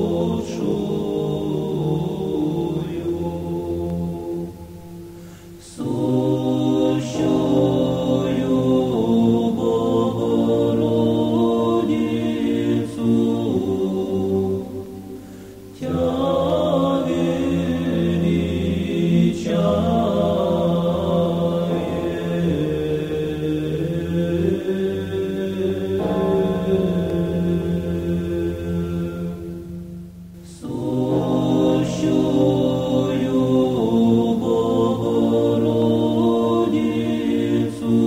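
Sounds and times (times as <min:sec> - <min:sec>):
choir chanting: 0:00.0 - 0:38.0
low sustained drone: 0:00.0 - 0:38.0.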